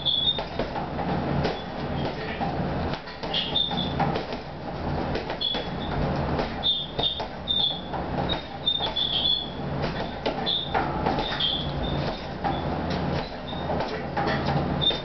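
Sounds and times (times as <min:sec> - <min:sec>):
punches thudding into heavy bag: 0:00.3 - 0:02.3, 0:02.9 - 0:07.4, 0:08.2 - 0:09.1, 0:09.8 - 0:12.5, 0:13.1 - 0:15.0.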